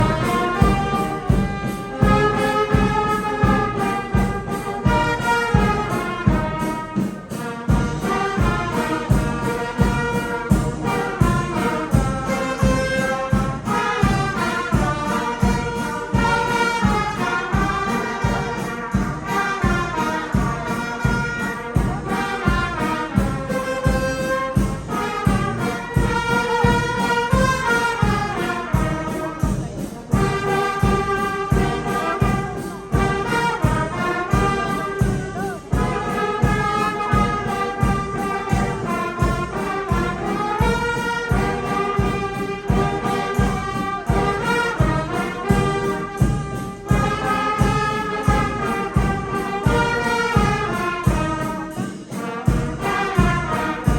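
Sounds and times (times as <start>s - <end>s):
brass band playing: 0.0s - 53.9s
steady drum beat: 0.0s - 53.9s.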